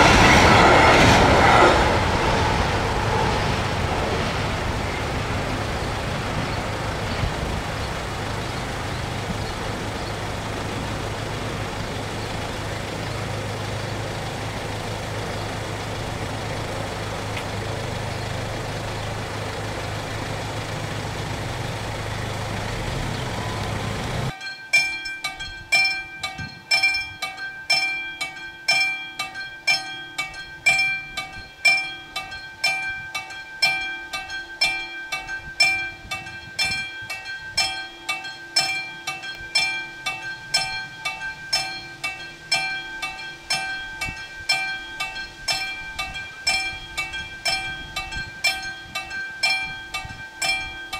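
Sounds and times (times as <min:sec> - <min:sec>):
car engine idling: 0:00.0 - 0:50.9
level crossing warning bell: 0:04.3 - 0:50.9.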